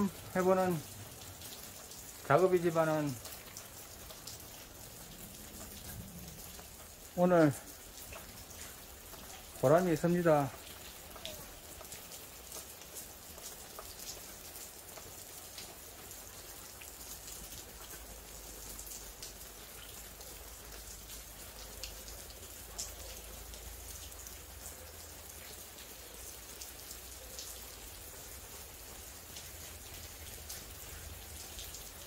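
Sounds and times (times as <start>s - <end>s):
sprinkler water falling like rain: 0.0s - 32.0s.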